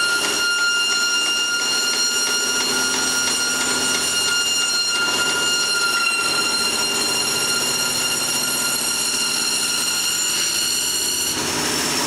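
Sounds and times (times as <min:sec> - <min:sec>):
bandsaw whining: 0:00.0 - 0:12.0.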